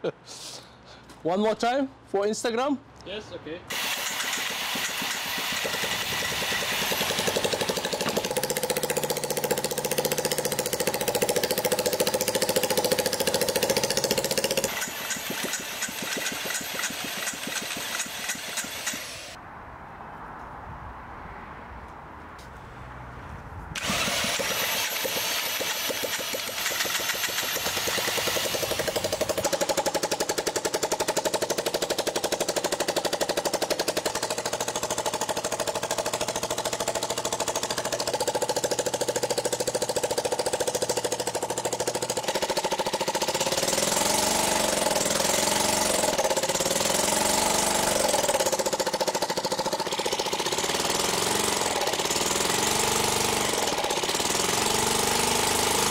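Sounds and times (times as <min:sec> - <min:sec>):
small engine running fast: 0:03.7 - 0:19.4, 0:23.8 - 0:55.9.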